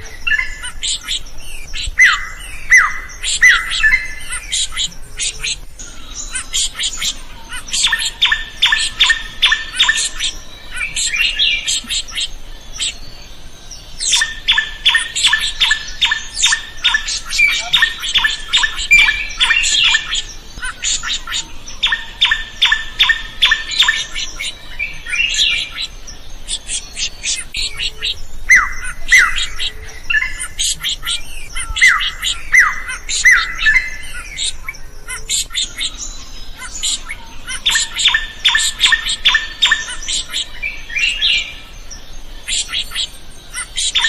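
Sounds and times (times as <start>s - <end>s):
bird chattering and whistles: 0.0s - 44.0s
bird singing sharp repeated notes: 0.0s - 44.0s.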